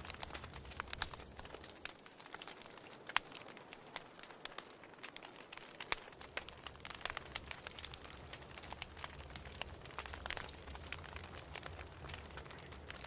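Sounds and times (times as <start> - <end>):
fire crackling in fireplace: 0.0 - 13.0.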